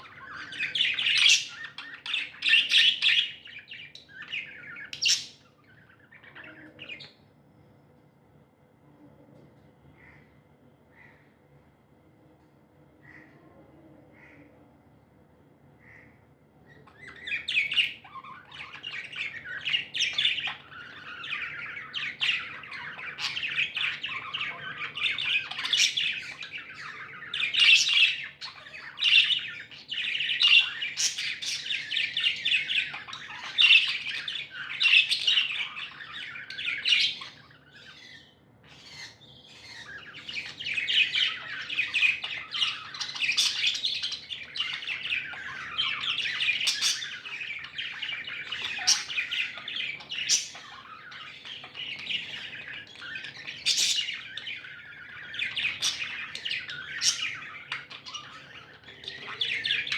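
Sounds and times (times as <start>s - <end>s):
budgerigars chattering and chirping: 0.0s - 7.2s, 15.8s - 59.9s.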